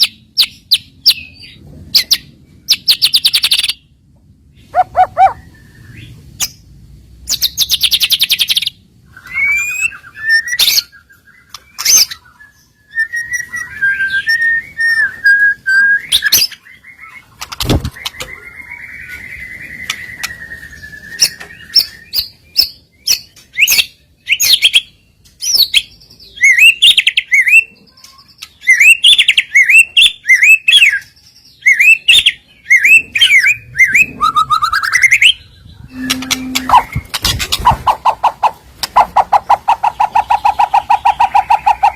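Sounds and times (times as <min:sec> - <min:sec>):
songbird singing varied song: 0:04.6 - 0:17.3, 0:17.9 - 0:41.9.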